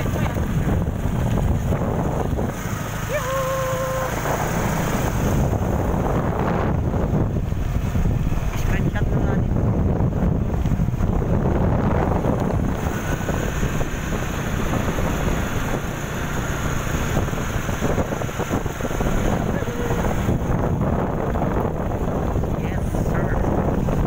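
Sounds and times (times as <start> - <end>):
motorcycle road and motor noise: 0.0 - 24.0
wind buffeting microphone: 0.0 - 24.0.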